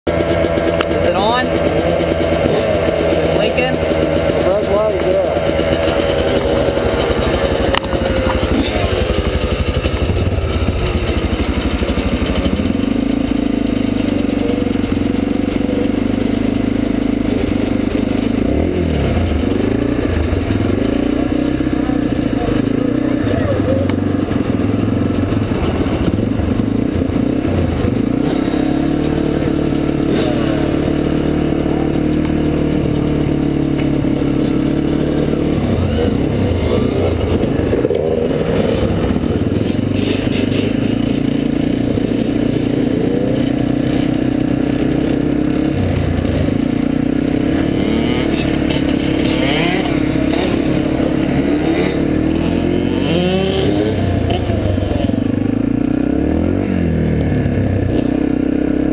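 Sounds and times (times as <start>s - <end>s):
dirt bike engine running: 0.1s - 58.9s
other dirt bike engines: 0.1s - 58.9s.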